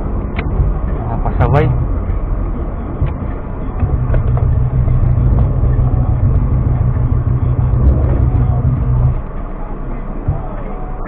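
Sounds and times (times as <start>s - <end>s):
vehicle engine and road drone: 0.0s - 11.0s.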